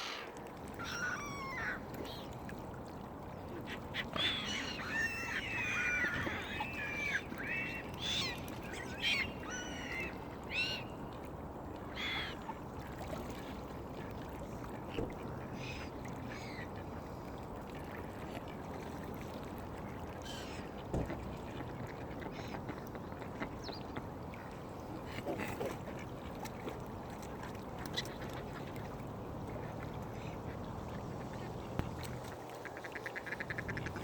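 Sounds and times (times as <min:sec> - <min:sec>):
waterbirds calling: 0:00.0 - 0:34.0.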